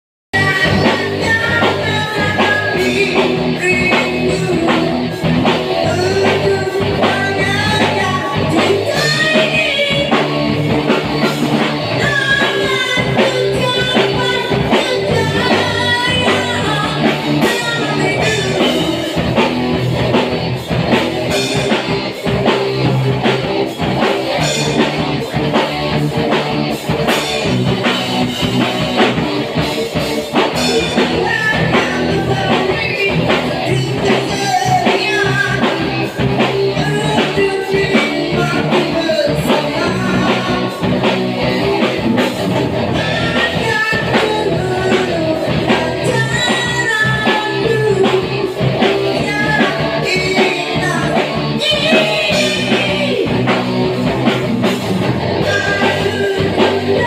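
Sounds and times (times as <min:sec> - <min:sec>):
drum kit: 0:00.3 - 0:57.0
electric guitar: 0:00.3 - 0:57.0
rock band playing: 0:00.3 - 0:57.0
person singing into a microphone: 0:00.4 - 0:20.0, 0:27.0 - 0:57.0.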